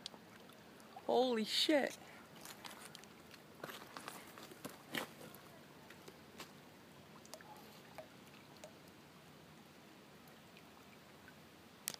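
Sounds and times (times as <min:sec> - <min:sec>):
faint outdoor background: 0:00.0 - 0:11.9.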